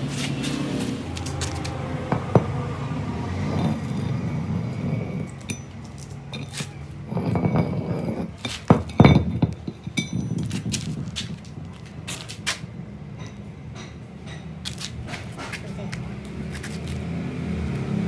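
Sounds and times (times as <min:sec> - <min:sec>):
metal tools clinking and knocking: 0:01.2 - 0:15.7.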